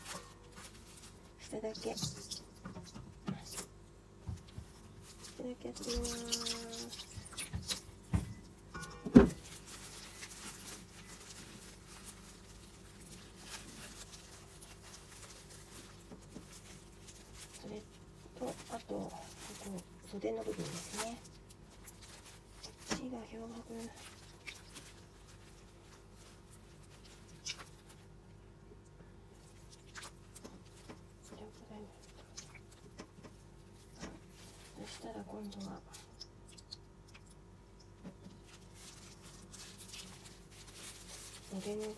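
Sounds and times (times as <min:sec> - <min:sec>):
faint steady hum: 0:00.0 - 0:41.9
rustling wet cloth in a metal bowl: 0:00.0 - 0:41.9.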